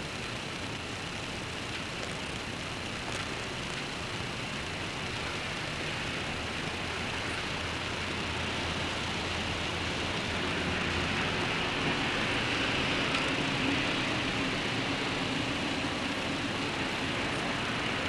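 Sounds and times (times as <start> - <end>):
road traffic: 0.0 - 18.0
steady rain hiss: 0.0 - 18.0
vehicle engine hum and tyre noise: 0.0 - 18.0.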